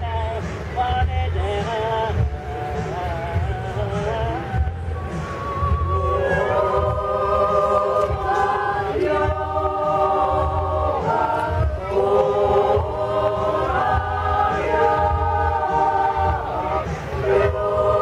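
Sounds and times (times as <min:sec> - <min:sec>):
women's choir singing unaccompanied: 0:02.5 - 0:18.0.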